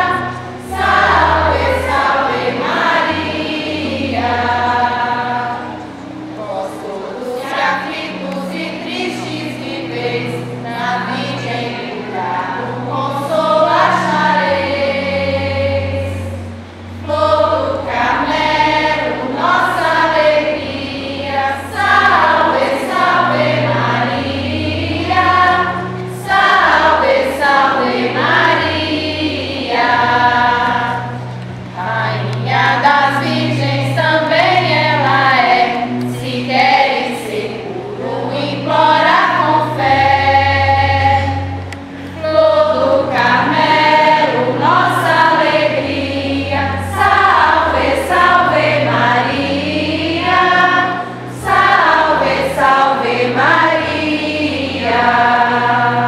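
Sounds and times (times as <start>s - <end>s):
low sustained accompaniment: 0.0s - 56.0s
women and congregation singing hymn: 0.0s - 56.0s.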